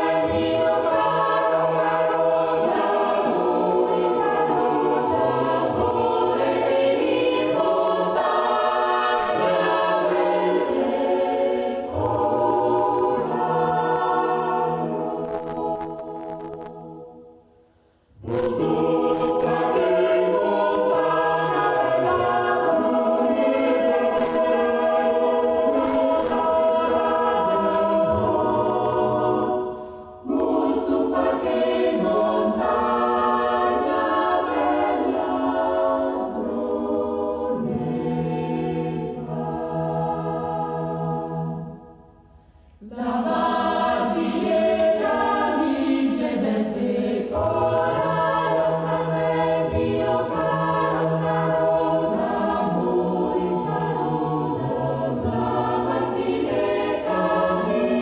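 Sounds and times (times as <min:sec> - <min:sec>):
choir singing: 0:00.0 - 0:17.3, 0:18.2 - 0:42.0, 0:42.8 - 0:58.0.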